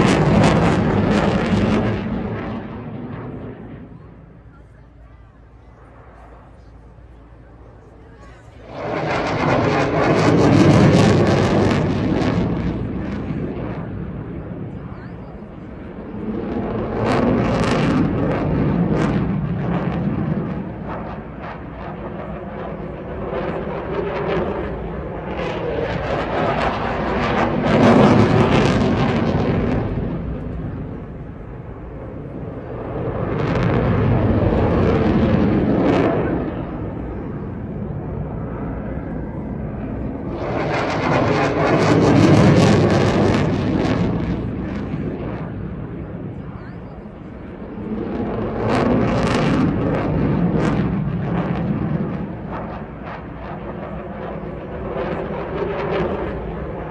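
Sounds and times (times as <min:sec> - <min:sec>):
jet aircraft engine crackling: 0:00.0 - 0:56.9.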